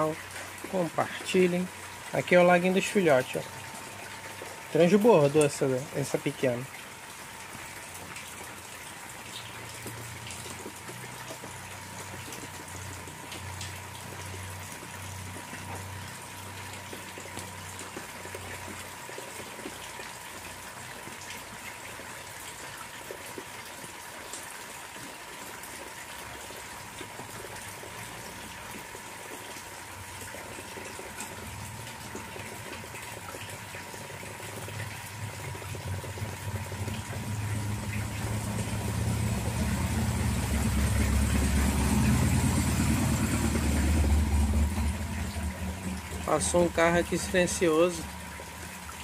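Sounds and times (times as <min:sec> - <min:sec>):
heavy rain on water: 0:00.0 - 0:49.0.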